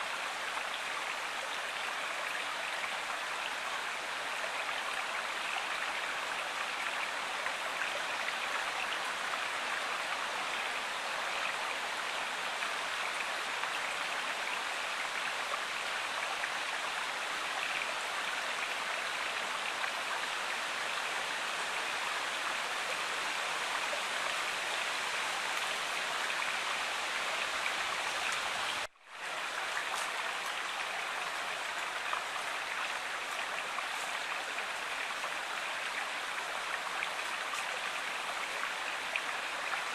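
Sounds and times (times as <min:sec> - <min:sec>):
rushing water of a stream: 0:00.0 - 0:39.9.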